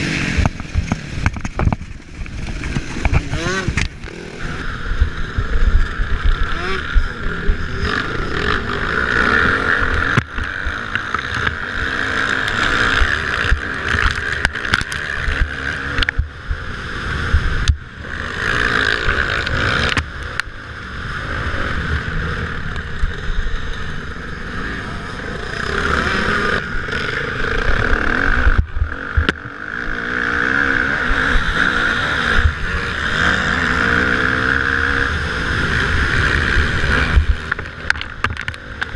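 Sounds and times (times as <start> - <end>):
motocross motorcycle engines racing: 0.0 - 38.9.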